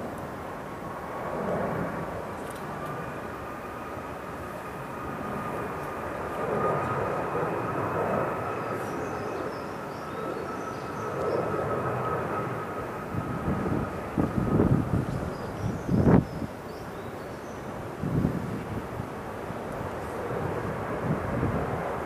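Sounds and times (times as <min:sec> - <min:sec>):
thin steady whine: 0:00.0 - 0:22.0.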